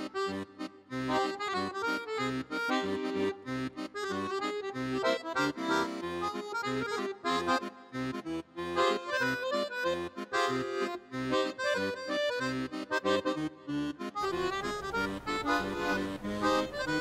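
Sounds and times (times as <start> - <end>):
accordion music: 0.0 - 17.0.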